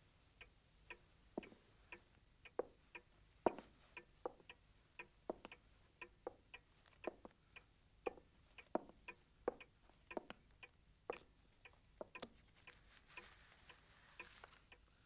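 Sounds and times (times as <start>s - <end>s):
pendulum clock ticking: 0.3s - 15.0s.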